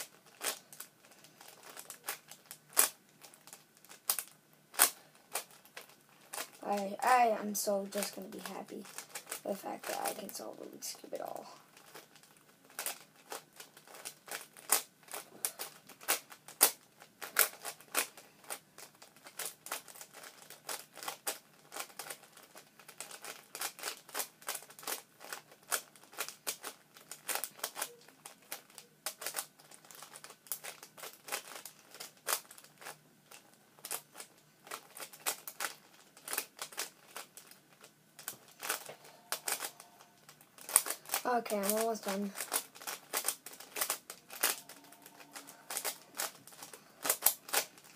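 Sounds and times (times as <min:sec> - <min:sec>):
speed cube clicking: 0:00.0 - 0:07.2, 0:08.0 - 0:10.3, 0:11.8 - 0:33.0, 0:33.8 - 0:39.8, 0:40.6 - 0:41.8, 0:42.4 - 0:47.9.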